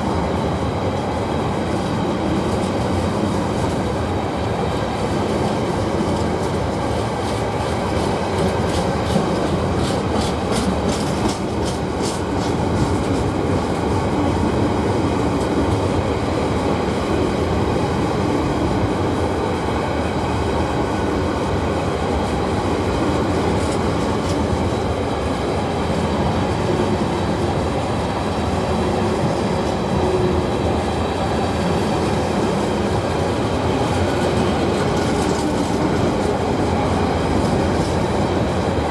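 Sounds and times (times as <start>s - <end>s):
train wheels rumbling on rails: 0.0s - 38.9s
wheels clickety-clack over rail joints: 0.0s - 38.9s.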